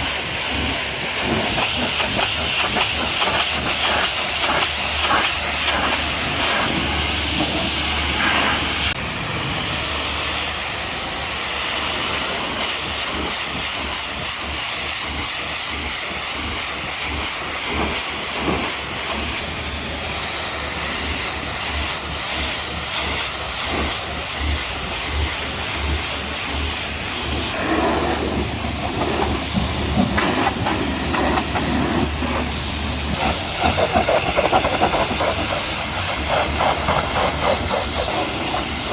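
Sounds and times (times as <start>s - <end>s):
pressure washer spray hissing: 0.0s - 38.9s.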